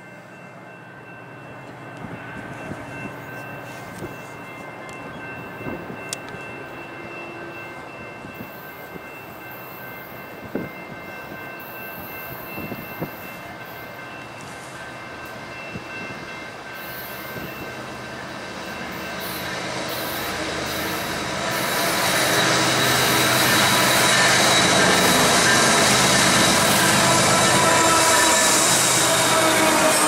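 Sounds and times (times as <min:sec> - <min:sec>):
freight train engine rumble: 0:00.0 - 0:30.0
high steady tone: 0:00.0 - 0:30.0.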